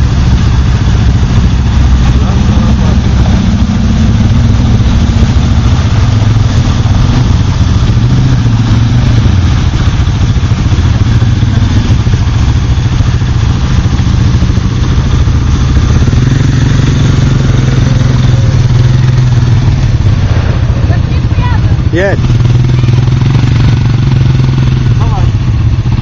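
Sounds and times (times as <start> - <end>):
atv engines idling: 0.0 - 26.0.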